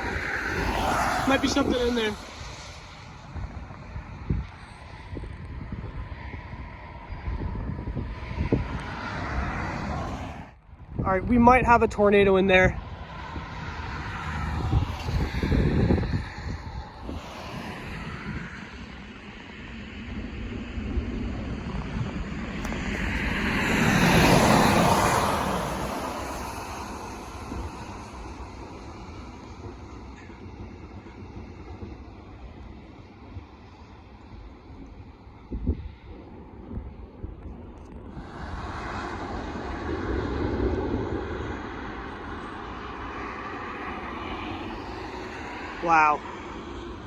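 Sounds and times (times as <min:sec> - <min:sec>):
car passing by: 0:00.0 - 0:11.2, 0:12.2 - 0:47.0
road noise: 0:00.0 - 0:47.0
steady low rumble: 0:00.0 - 0:47.0.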